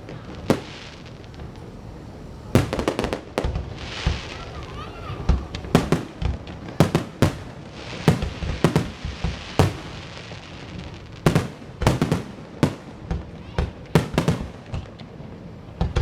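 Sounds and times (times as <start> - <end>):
faint hiss: 0.0 - 16.0
fireworks bangs: 0.0 - 16.0.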